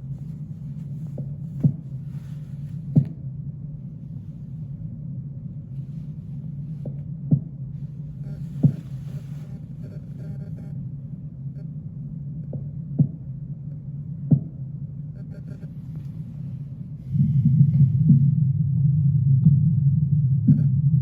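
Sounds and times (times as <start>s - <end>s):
low bowel rumble: 0.0s - 21.0s.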